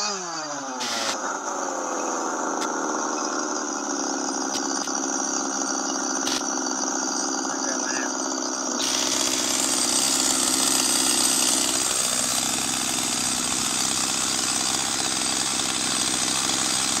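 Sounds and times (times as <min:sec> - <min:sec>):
chainsaw idling: 0:00.0 - 0:17.0.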